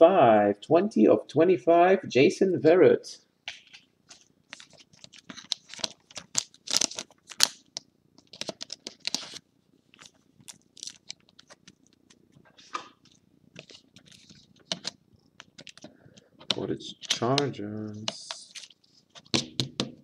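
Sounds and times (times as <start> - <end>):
plastic card sleeve crinkling: 3.5 - 19.7.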